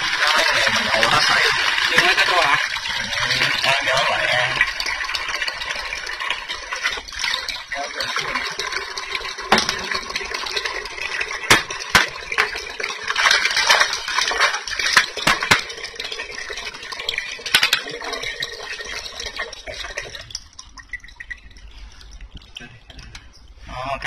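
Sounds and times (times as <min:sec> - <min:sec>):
water running into plastic bucket: 0:00.0 - 0:23.2.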